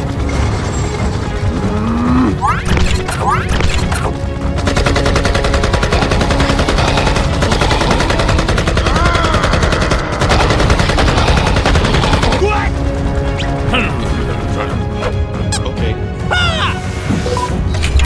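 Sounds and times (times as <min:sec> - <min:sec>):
rapid continuous rattle: 0:00.0 - 0:14.9
background music: 0:00.0 - 0:18.0.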